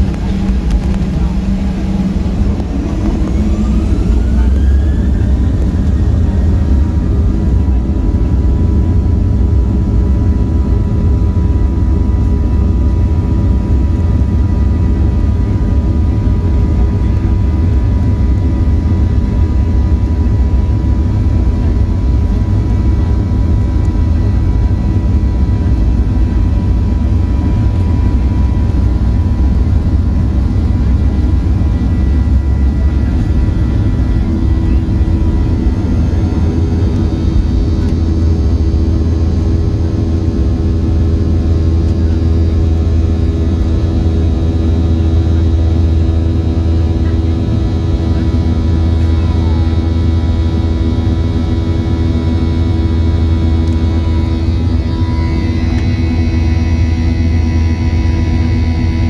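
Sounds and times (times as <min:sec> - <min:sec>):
jet engines from inside cabin: 0:00.0 - 0:59.0.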